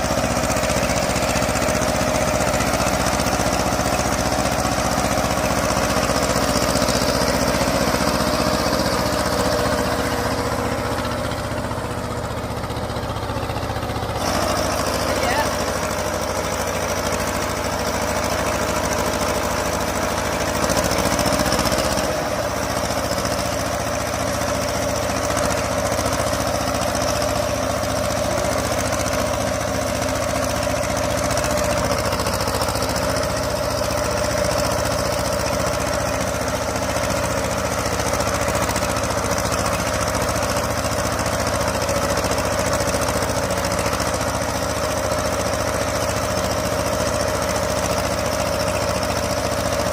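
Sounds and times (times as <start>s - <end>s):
tractor diesel engine knocking: 0.0s - 49.9s.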